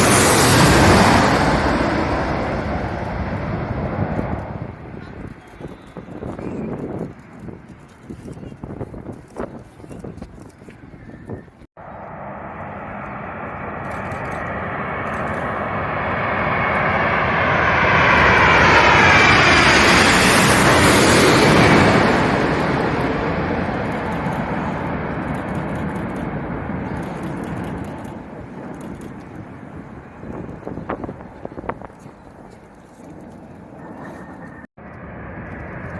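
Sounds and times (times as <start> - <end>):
jet airliner passing overhead: 0.0 - 9.2, 11.2 - 35.9.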